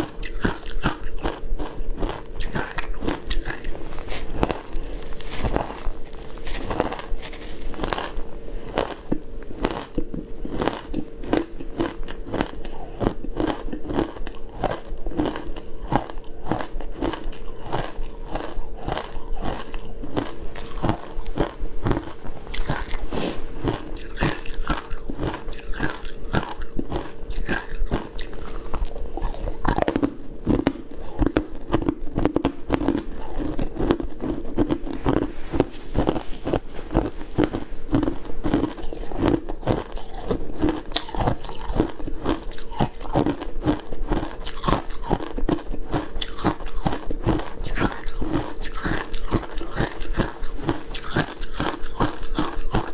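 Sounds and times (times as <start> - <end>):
chewing crunching ice: 0.0 - 52.9.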